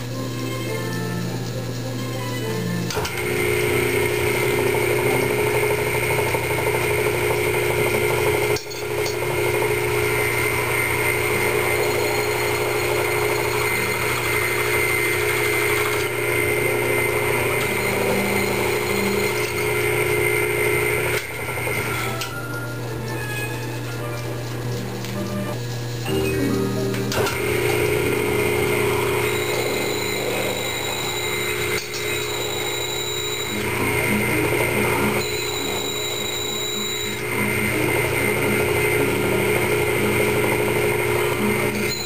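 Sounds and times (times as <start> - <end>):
milling machine whining: 0.0 - 42.0.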